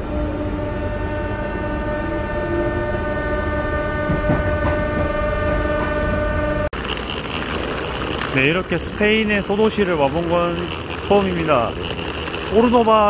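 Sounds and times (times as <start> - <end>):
droning tone: 0.0 - 13.0
train rumble: 0.0 - 13.0.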